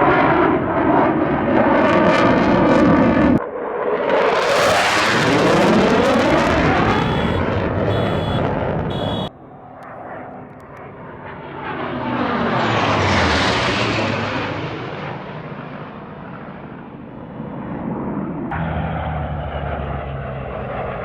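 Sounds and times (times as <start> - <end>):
airplane flying past: 0.0 - 21.0.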